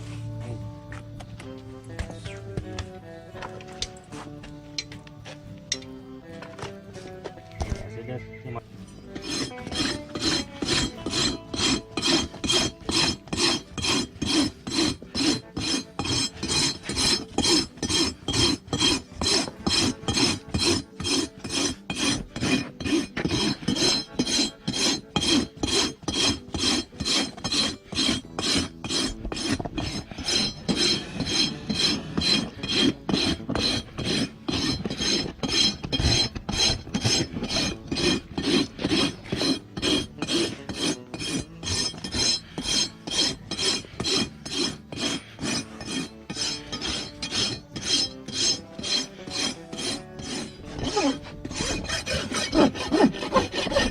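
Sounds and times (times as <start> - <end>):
hoof rasp filing hoof: 0.0 - 53.9.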